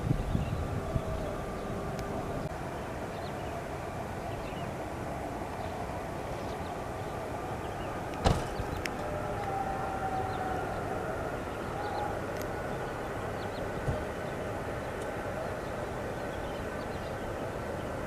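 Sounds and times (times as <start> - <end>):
distant jet engines rumbling: 0.0 - 18.0.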